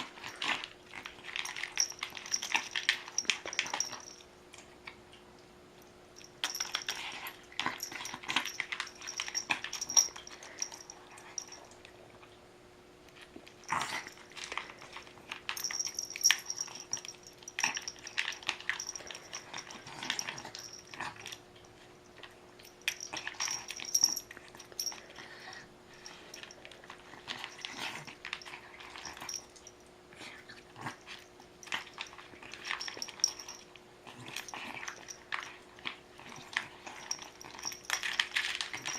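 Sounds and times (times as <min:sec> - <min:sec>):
pet eating from bowl: 0:00.0 - 0:05.2, 0:06.1 - 0:12.4, 0:13.1 - 0:38.9.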